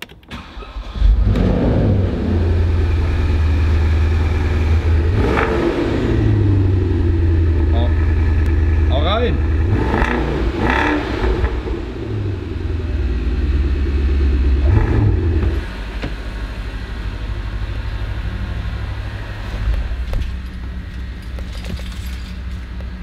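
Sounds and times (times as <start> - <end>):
car engine rumbling: 0.3 - 23.0.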